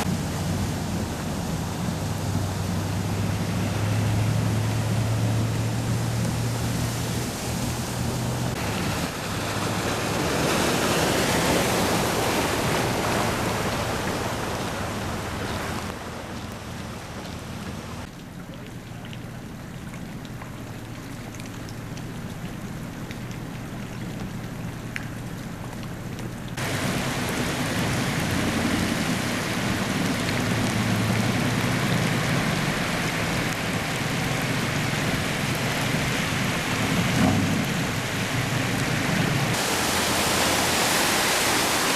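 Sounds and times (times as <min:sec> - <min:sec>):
floodwater rushing: 0:00.0 - 0:41.9
heavy rain: 0:00.0 - 0:41.9
low engine hum: 0:00.0 - 0:41.9.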